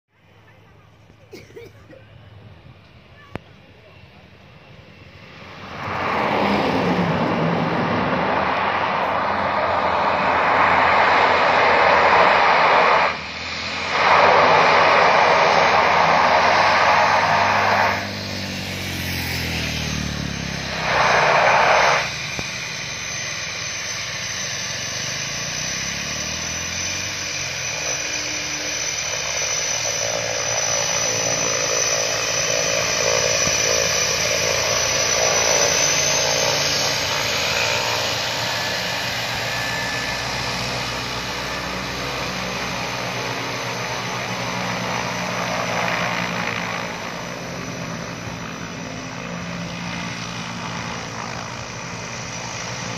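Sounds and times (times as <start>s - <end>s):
high turbine whine: 0.1s - 52.9s
propeller noise: 0.1s - 52.9s
turboprop engine: 0.1s - 52.9s.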